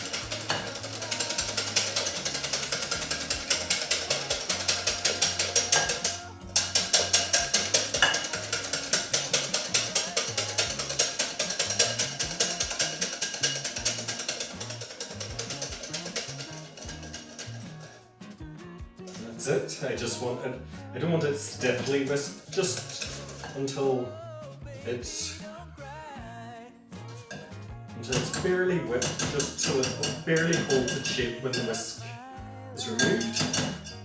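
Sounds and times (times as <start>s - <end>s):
whisk clicking against bowl: 0.0s - 18.0s, 19.1s - 24.0s, 27.2s - 32.2s, 32.8s - 34.0s
background music: 0.0s - 34.0s.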